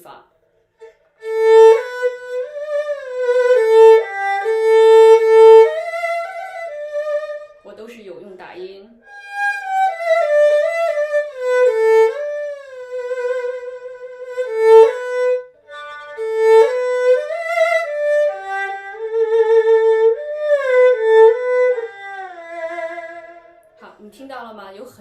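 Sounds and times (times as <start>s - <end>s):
erhu melody: 0.8s - 7.8s, 9.0s - 23.8s.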